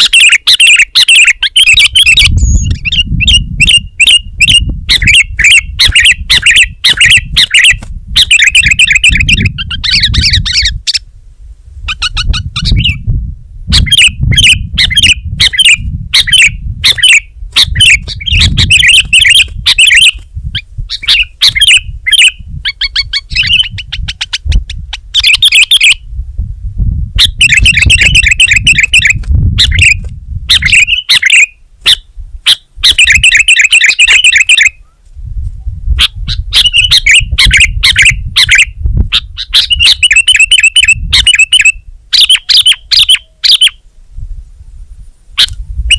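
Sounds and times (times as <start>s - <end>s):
bird chattering calls: 0.0s - 11.0s, 11.8s - 13.0s, 13.7s - 20.2s, 20.9s - 26.0s, 27.2s - 34.8s, 36.0s - 43.8s.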